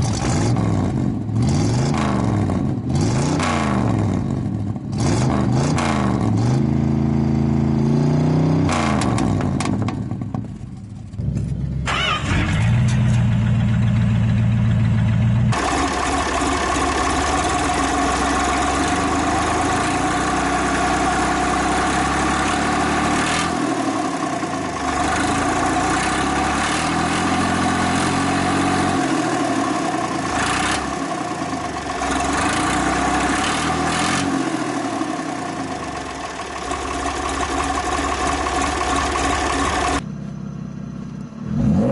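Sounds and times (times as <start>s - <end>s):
engine revving and idling: 0.0s - 41.9s.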